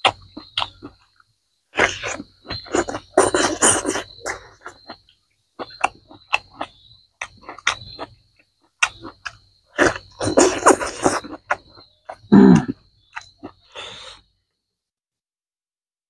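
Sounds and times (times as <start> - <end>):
person chewing and lip-smacking: 0.0 - 1.0, 1.8 - 14.2
insect trill: 0.0 - 14.9.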